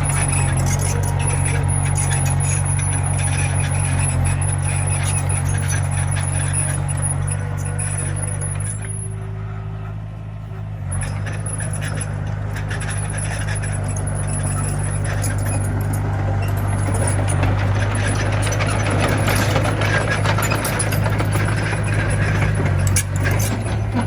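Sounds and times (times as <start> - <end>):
diesel engine running under load: 0.0 - 24.0
metallic clinking of tracks: 0.0 - 24.0.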